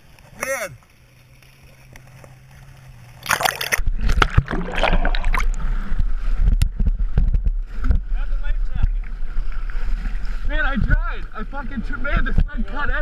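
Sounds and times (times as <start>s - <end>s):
water splashing against camera: 0.0s - 13.0s
low microphone rumble: 1.6s - 13.0s.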